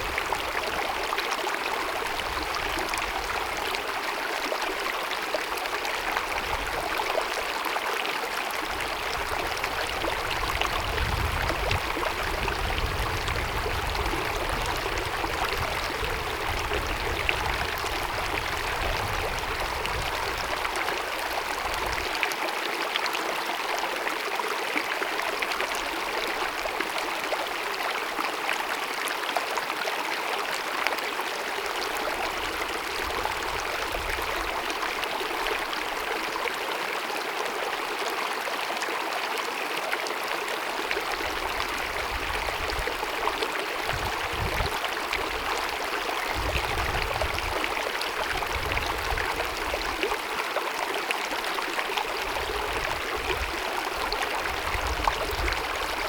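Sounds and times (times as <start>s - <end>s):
stream cascading over rocks: 0.0s - 56.0s.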